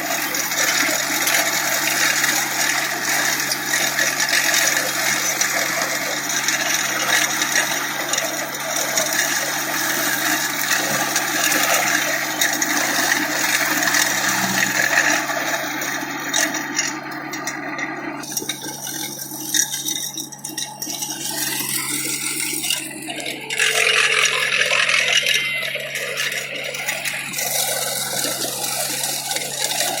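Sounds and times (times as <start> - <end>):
cutter scraping and rattling: 0.0 - 30.0
tractor engine hum: 0.0 - 30.0.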